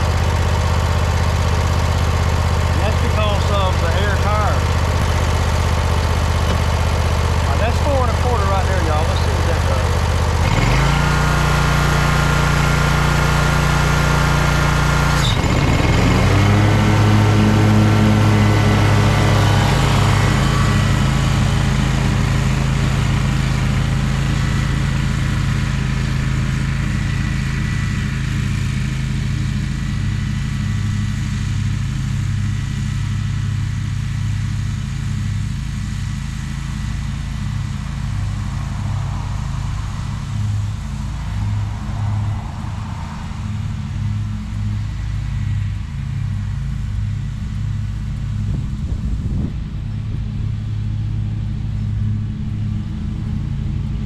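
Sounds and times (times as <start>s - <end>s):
lawn mower cutting grass: 0.0s - 49.5s.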